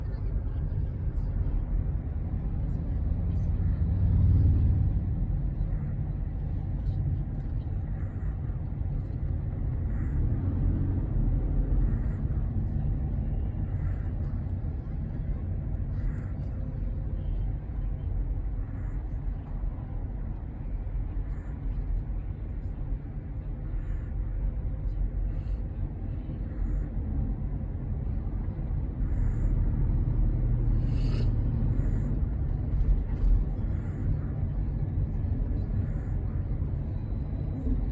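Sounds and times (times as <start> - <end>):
steady low rumble: 0.0 - 37.9.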